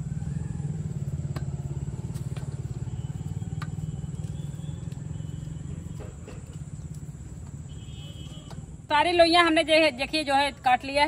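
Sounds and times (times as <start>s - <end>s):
low fluttering engine rumble: 0.0s - 8.9s.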